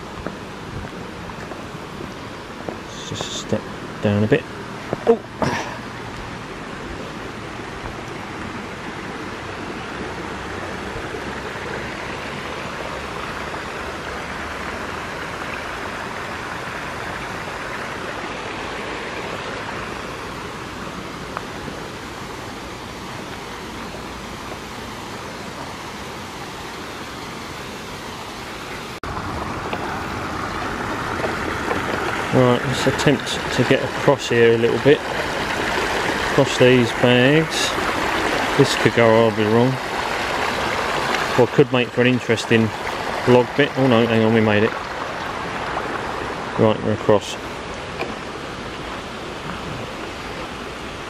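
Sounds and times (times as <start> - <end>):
stream flowing water: 0.0 - 51.0.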